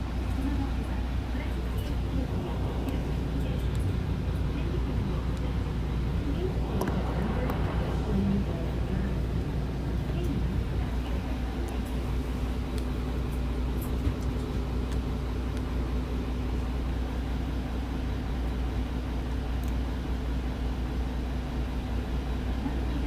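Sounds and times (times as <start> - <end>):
bus engine rumbling: 0.0 - 23.0.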